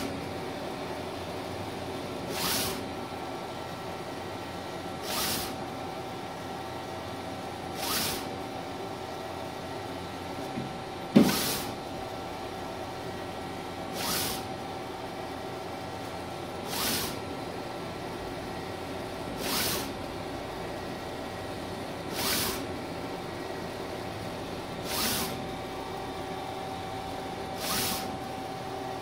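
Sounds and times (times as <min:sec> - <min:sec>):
printer humming: 0:00.0 - 0:29.0.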